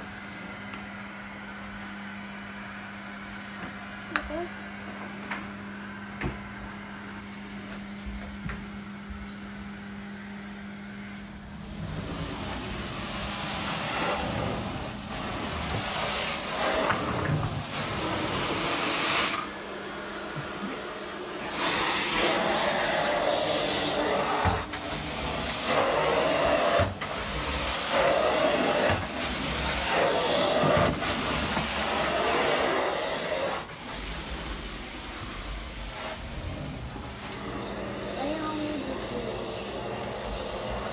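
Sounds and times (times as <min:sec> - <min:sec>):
carpet cleaning machine hum: 0:00.0 - 0:40.9.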